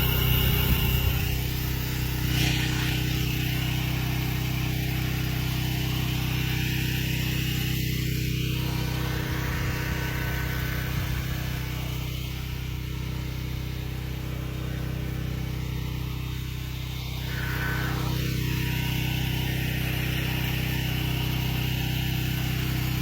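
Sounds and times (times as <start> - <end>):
pressure washer motor hum: 0.0 - 23.0.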